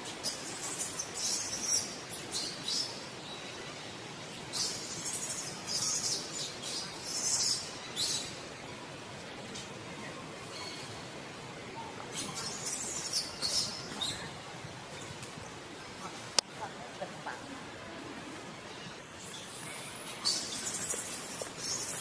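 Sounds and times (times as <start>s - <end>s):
birds chirping: 0.2s - 16.4s, 18.5s - 22.0s.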